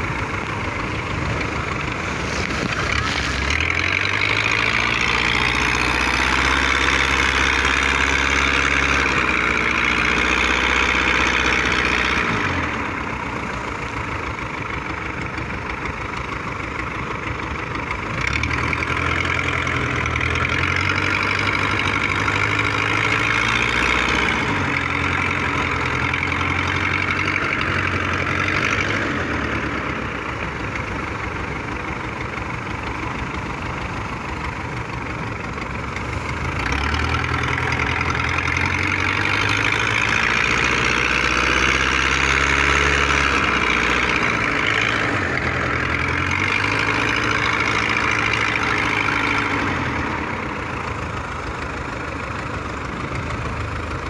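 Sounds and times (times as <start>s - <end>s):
boat engine drone: 0.0s - 54.0s.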